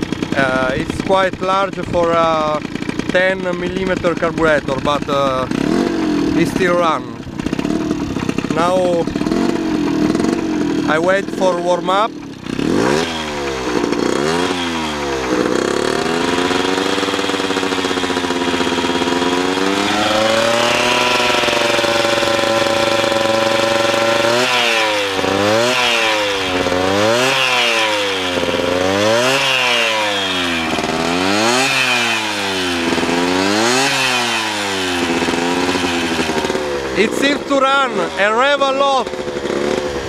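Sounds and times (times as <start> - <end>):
two-stroke moped engine revving: 0.0 - 40.0.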